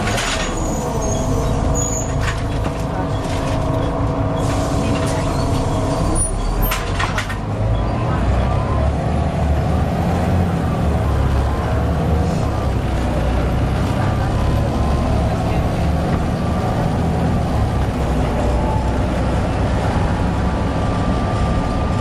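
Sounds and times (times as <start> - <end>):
bus engine low rumble: 0.0 - 22.0
bus whining: 0.0 - 22.0.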